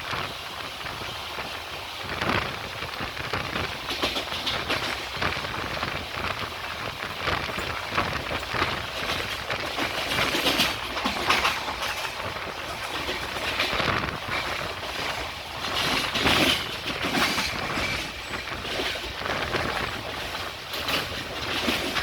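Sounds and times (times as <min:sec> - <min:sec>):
train wheels on rail: 0:00.0 - 0:22.0
wheels clattering over rail joints: 0:00.0 - 0:22.0.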